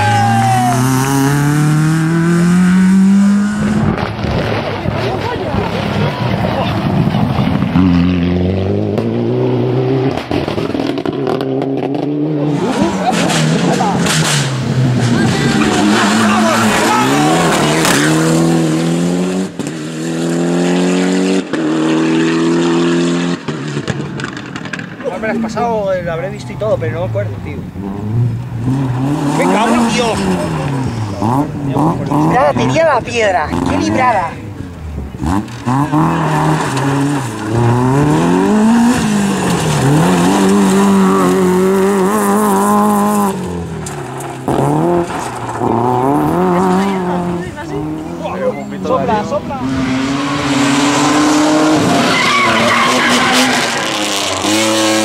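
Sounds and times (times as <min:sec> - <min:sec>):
rally car engine at high revs: 0:00.0 - 0:25.0, 0:27.6 - 0:55.0.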